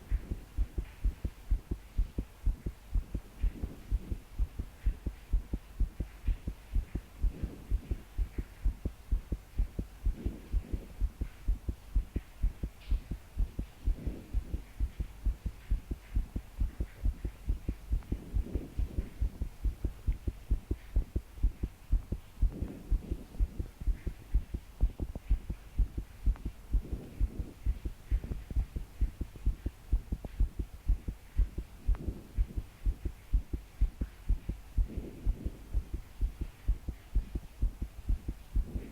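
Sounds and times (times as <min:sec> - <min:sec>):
fast pounding heartbeat: 0:00.0 - 0:38.9.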